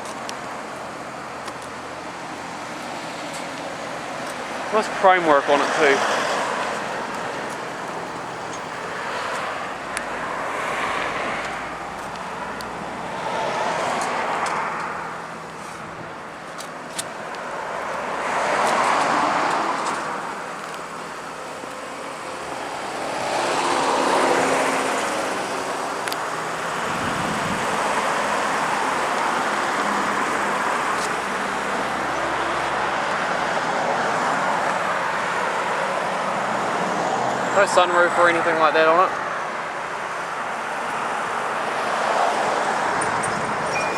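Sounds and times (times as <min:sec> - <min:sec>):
vehicles passing on a road: 0:00.0 - 0:43.9.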